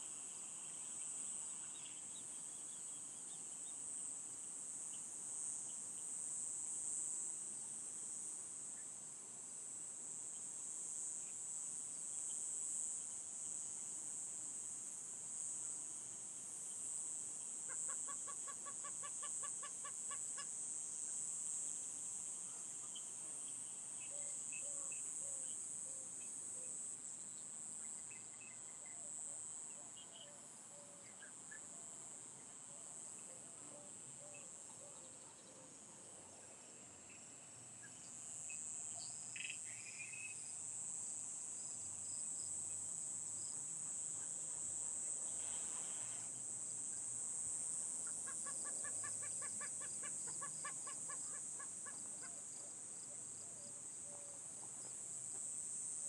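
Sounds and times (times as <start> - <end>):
high-pitched insect chorus: 0.0 - 7.3, 10.3 - 56.0.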